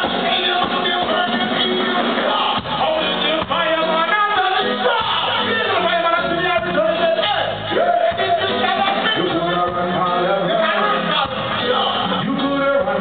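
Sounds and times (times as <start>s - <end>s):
live band music: 0.0s - 13.0s
man singing into microphone: 0.0s - 13.0s.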